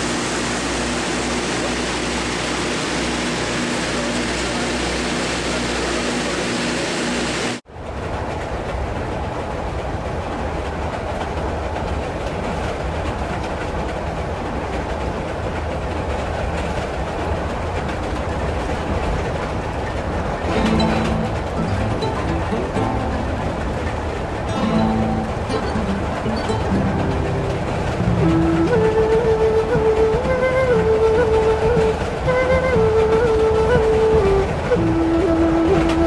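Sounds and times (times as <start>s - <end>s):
rail car rumbling and rattling: 0.0s - 36.0s
steady mechanical hum: 0.0s - 36.0s.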